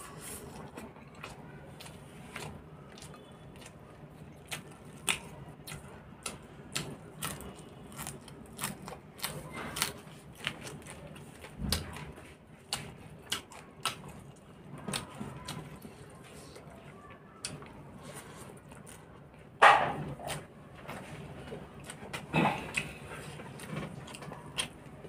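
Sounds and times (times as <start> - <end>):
person chewing and smacking food: 0.1 - 25.0.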